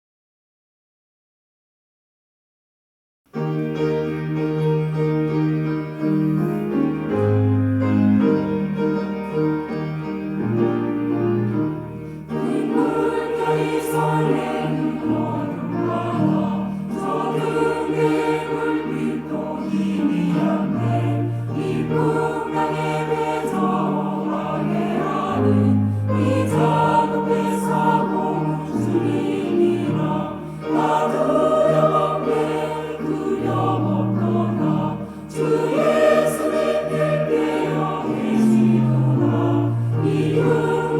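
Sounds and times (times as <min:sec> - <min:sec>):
instrumental accompaniment: 0:03.4 - 0:40.9
choir singing a hymn: 0:04.6 - 0:40.9.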